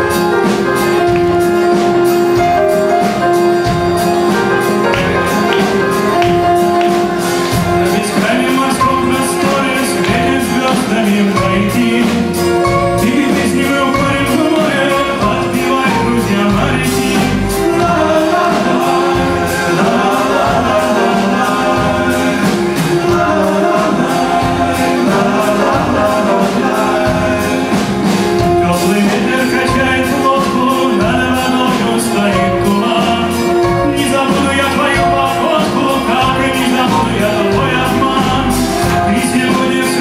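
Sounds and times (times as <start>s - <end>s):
live band music: 0.0s - 40.0s
steady percussion beat: 0.0s - 40.0s
man singing into microphone: 7.6s - 40.0s.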